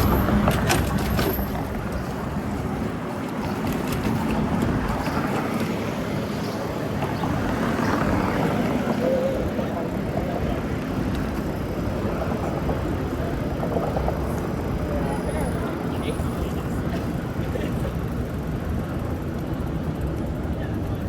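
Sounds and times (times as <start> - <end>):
road noise: 0.0 - 21.0
traffic: 0.0 - 21.0.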